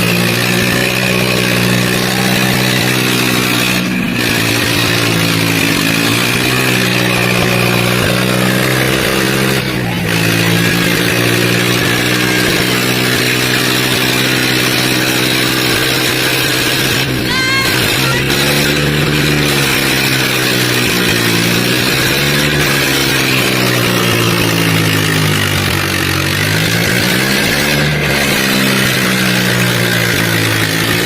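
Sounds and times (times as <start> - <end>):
diesel tractor engines under load: 0.0 - 31.0.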